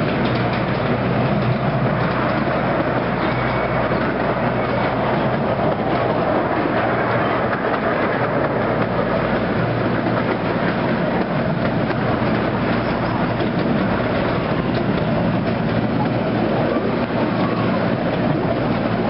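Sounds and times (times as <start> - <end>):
rail joint clicks: 0.0 - 19.0
wheels rumbling on rails: 0.0 - 19.0.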